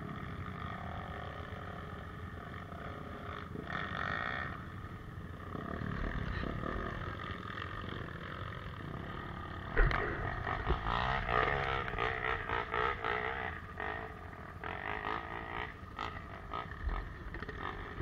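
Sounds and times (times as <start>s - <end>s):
dirt bike engines at low speed: 0.0s - 18.0s.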